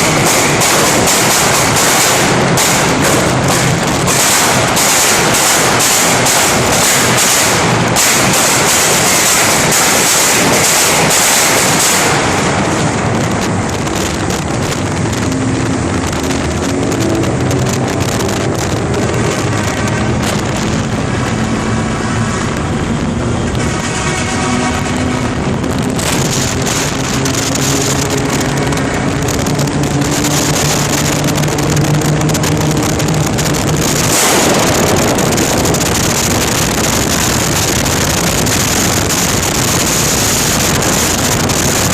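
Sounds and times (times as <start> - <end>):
car engine revving: 0.0 - 41.9
wind noise on microphone: 0.0 - 41.9.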